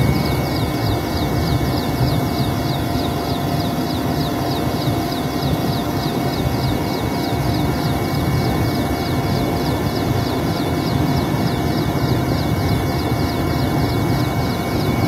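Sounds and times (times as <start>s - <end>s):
helicopter engine and rotor rumble: 0.0s - 15.0s.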